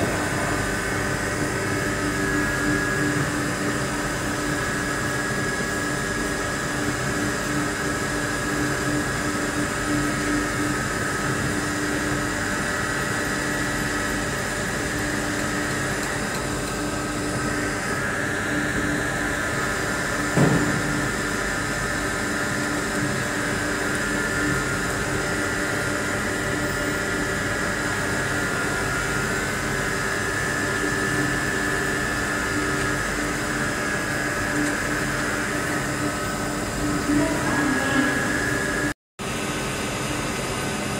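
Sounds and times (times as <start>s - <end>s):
machine mechanical hum: 0.0s - 40.9s.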